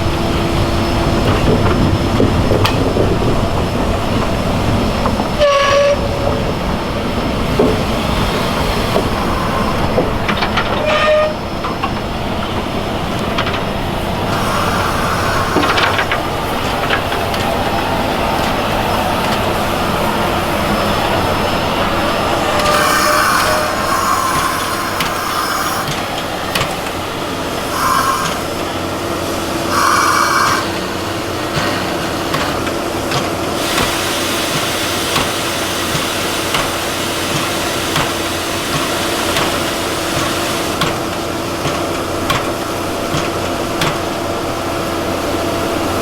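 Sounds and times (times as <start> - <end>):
steam train rumbling on track: 0.0 - 46.0.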